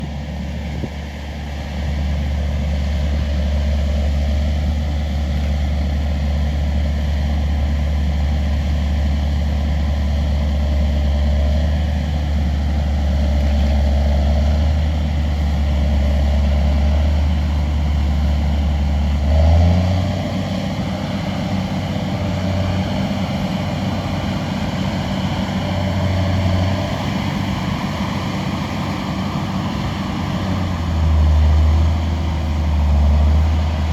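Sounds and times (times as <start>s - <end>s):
combine harvester engine droning: 0.0s - 33.9s.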